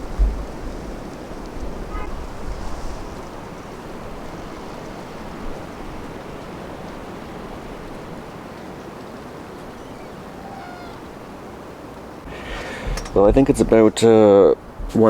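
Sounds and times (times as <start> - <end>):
strong wind blowing around tent: 0.0 - 15.0.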